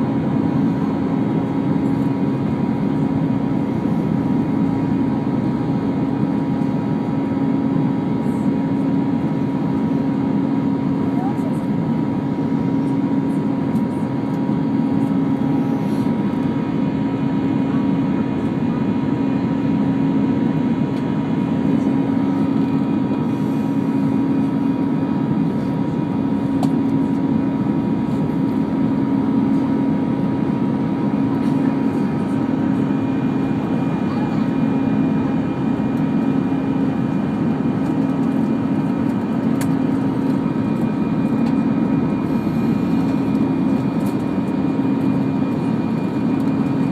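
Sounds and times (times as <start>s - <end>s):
airplane cabin engine rush: 0.0s - 46.9s
constant low hum: 0.0s - 46.9s.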